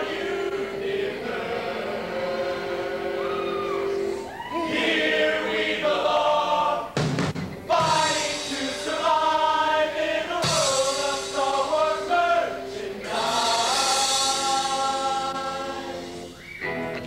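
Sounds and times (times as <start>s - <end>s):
men's chorus singing in harmony: 0.0s - 4.0s, 4.6s - 7.0s, 7.7s - 16.4s.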